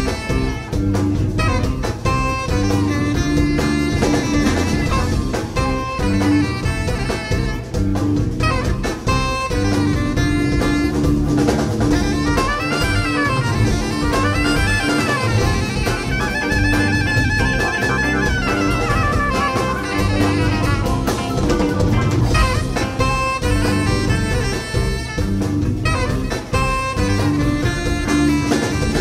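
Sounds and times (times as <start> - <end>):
jazz-rock band playing: 0.0 - 29.0
wind instrument lead line: 0.0 - 29.0.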